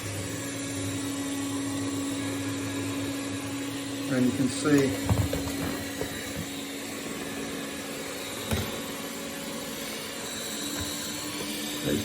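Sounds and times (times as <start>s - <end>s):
robot vacuum motor humming: 0.0s - 12.0s.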